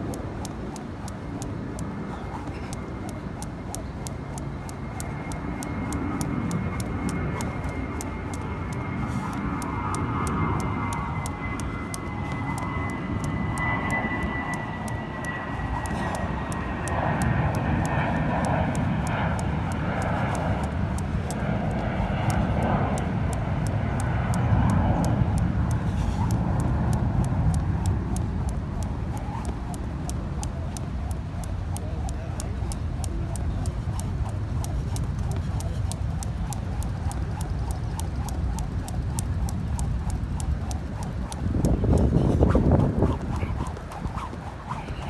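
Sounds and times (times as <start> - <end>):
airplane passing overhead: 0.0 - 45.0
jump rope clicking on pavement: 0.0 - 45.0.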